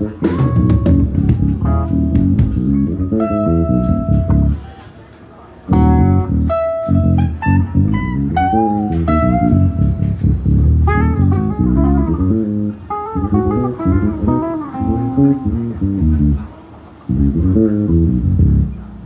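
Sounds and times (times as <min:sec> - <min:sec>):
bass guitar playing: 0:00.0 - 0:04.7, 0:05.7 - 0:19.0
electric guitar playing: 0:00.0 - 0:04.7, 0:05.7 - 0:19.0.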